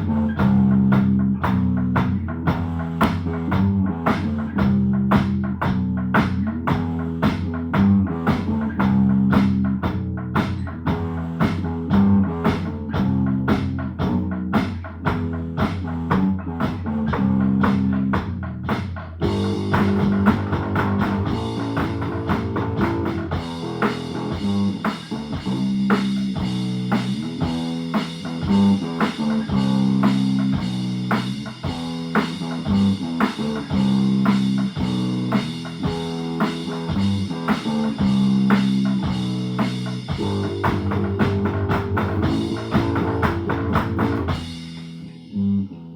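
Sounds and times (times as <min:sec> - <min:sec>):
drum kit steady beat: 0:00.0 - 0:45.0
raspy electric guitar: 0:00.0 - 0:45.0.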